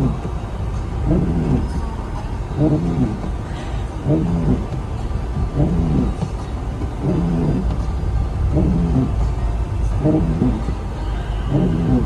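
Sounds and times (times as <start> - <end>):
car engine and tyres rumbling: 0.0 - 12.0
windscreen wipers squeaking: 0.0 - 12.0.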